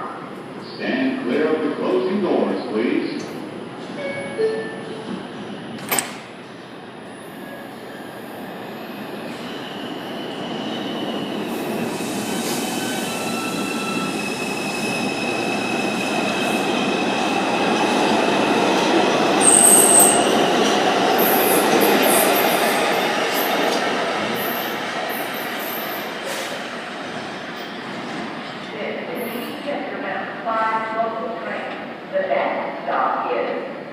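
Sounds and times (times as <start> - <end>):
subway train rumbling on rails: 0.0 - 33.9.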